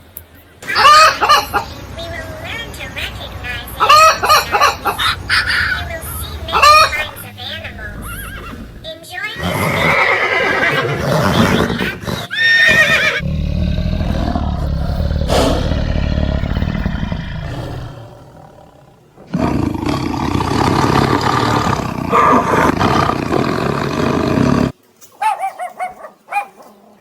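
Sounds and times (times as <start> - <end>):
high arching yelps: 0.6 - 27.0
big cat roaring and growling: 1.5 - 24.7.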